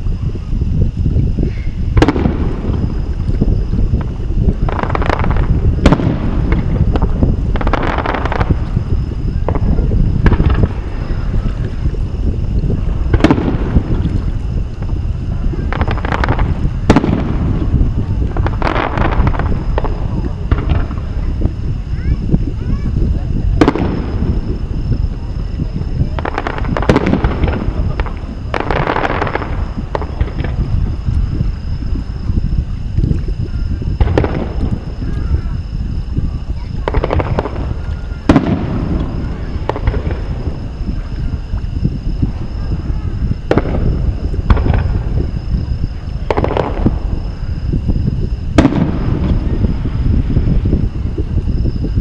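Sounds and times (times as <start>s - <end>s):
fireworks bangs and crackling: 0.0s - 52.0s
steady low rumble: 0.0s - 52.0s.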